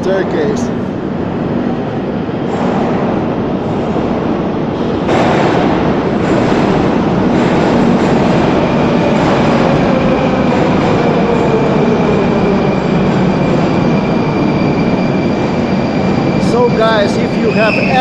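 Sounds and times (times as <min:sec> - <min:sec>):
metro train rumble: 0:00.0 - 0:18.0.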